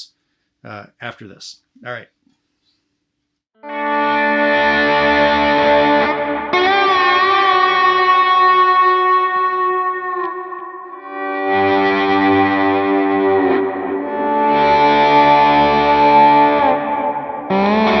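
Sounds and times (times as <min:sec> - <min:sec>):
slide electric guitar lead: 0:03.6 - 0:18.0.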